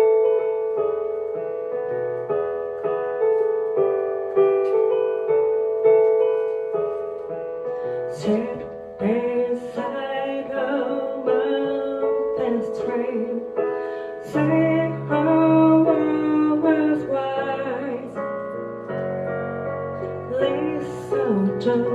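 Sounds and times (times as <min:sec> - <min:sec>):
piano chords: 0:00.0 - 0:21.9.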